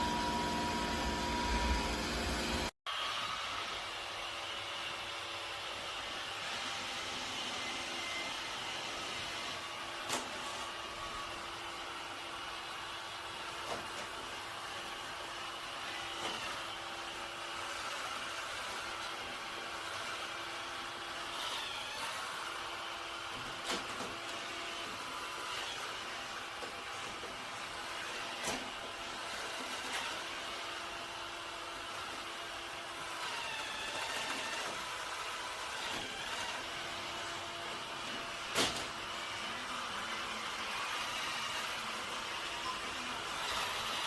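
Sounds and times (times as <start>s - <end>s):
robot vacuum running: 0.0s - 44.0s.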